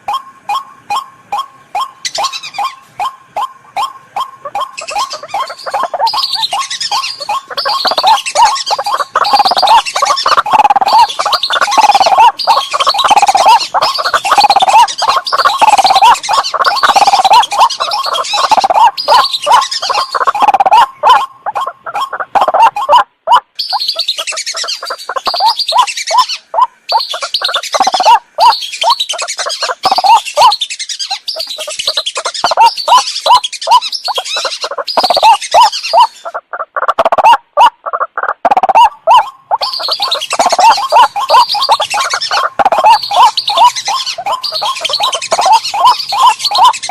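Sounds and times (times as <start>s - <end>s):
waterbird calls: 0.0s - 46.9s.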